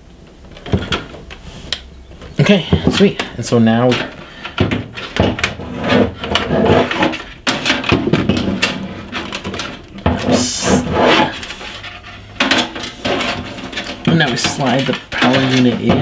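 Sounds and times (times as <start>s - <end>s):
knocks and scrapes of handled hardware: 0.5s - 16.0s.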